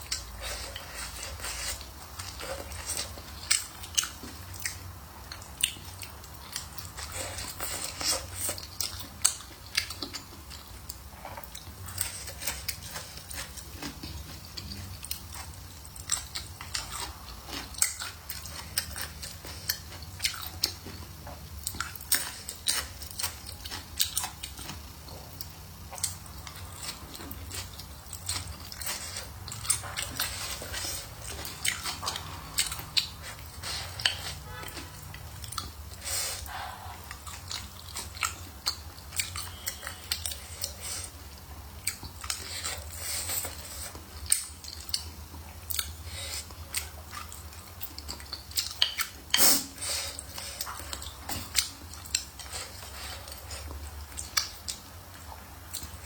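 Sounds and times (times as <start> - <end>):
person chewing and biting food: 0.0 - 56.0.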